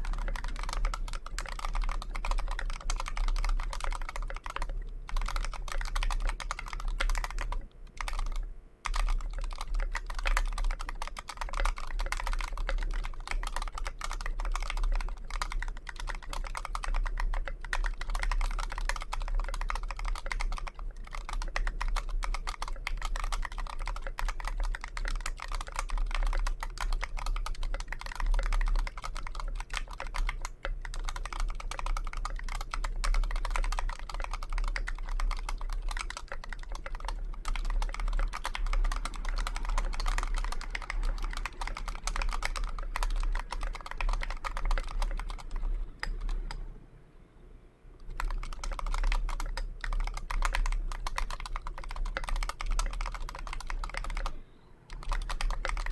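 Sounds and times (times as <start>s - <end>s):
mechanical keyboard typing: 0.0s - 46.7s, 48.0s - 55.9s.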